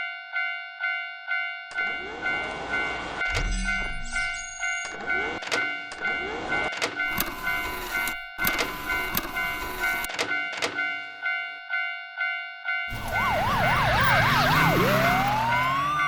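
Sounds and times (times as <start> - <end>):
railroad crossing alarm ringing: 0.0 - 16.0.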